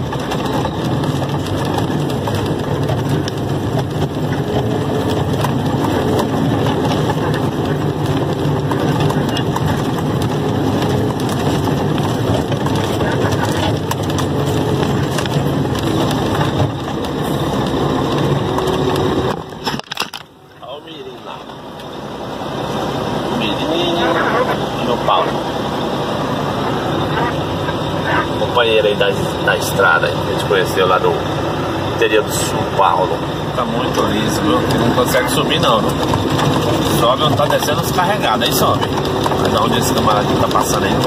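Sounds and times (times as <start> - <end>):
cab and load clattering: 0.0 - 41.0
truck engine running: 0.0 - 41.0.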